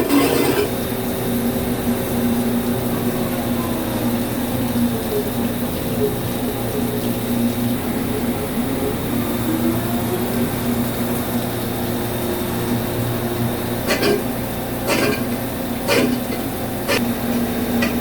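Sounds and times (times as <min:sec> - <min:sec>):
lathe running: 0:00.0 - 0:18.0.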